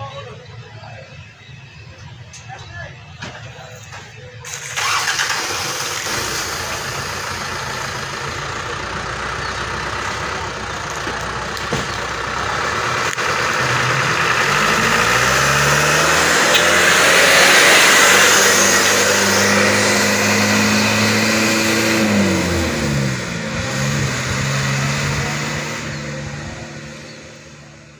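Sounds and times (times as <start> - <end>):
diesel truck accelerating past: 4.4 - 27.9.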